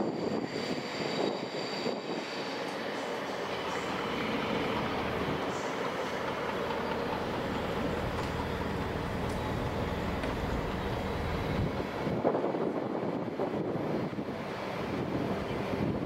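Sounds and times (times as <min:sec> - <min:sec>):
train running: 0:00.0 - 0:16.0.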